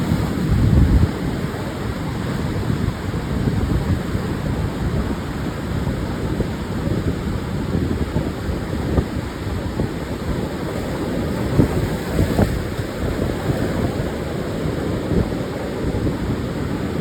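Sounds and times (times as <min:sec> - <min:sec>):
surf washing onto sand: 0:00.0 - 0:17.0
wind buffeting microphone: 0:00.0 - 0:17.0.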